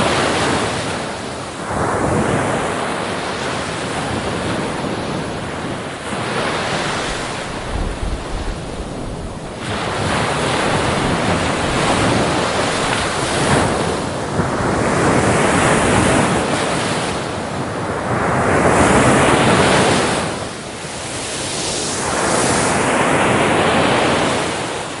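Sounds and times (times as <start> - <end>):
waves washing in: 0.0 - 25.0
wind buffeting microphone: 0.0 - 25.0.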